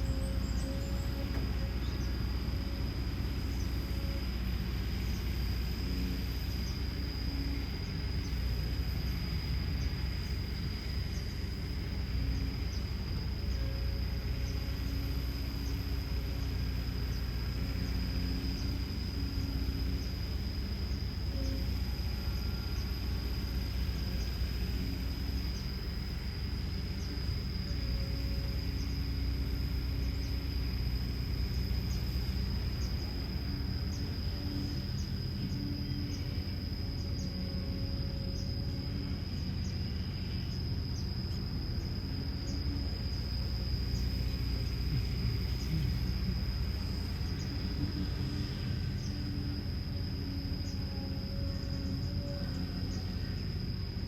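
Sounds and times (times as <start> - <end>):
excavator diesel engine running: 0.0 - 54.0
steady high tone: 0.0 - 54.0.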